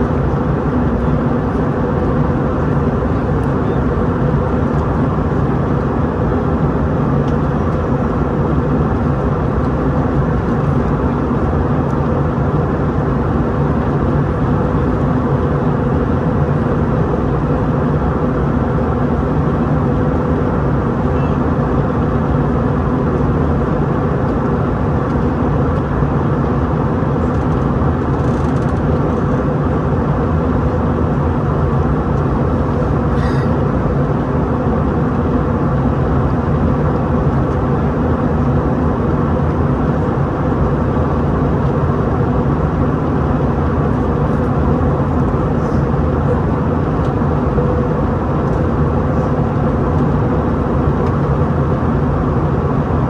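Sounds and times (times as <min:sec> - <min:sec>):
airplane cabin noise: 0:00.0 - 0:53.0.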